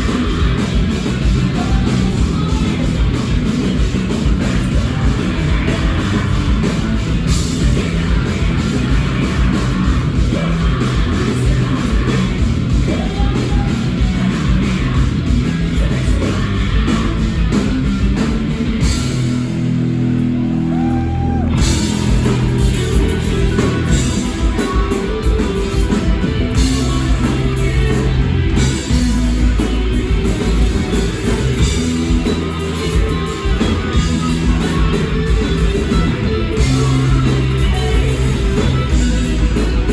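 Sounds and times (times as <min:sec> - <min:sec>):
person singing: 0:00.0 - 0:17.6, 0:20.7 - 0:39.9
drums: 0:00.0 - 0:39.9
guitars: 0:00.0 - 0:39.9.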